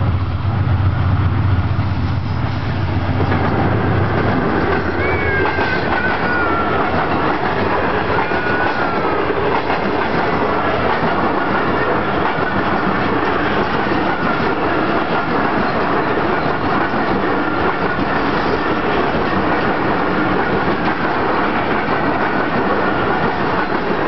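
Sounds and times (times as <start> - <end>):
diesel locomotive engine drone: 0.0 - 24.0
train coaches clattering: 1.5 - 24.0.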